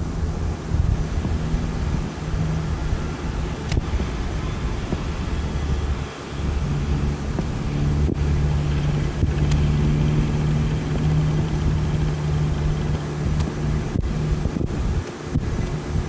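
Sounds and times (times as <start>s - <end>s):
even hiss: 0.0s - 16.0s
low motor hum: 0.0s - 16.0s.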